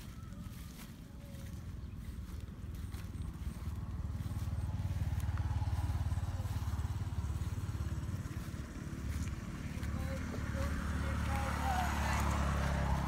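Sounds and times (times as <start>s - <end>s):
low pulsing engine rumble: 0.0s - 13.0s.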